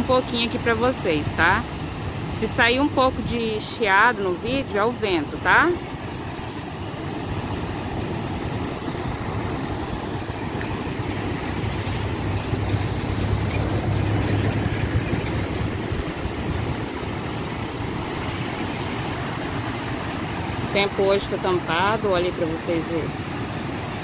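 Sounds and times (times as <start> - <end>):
wind rumbling on microphone: 0.0 - 21.2.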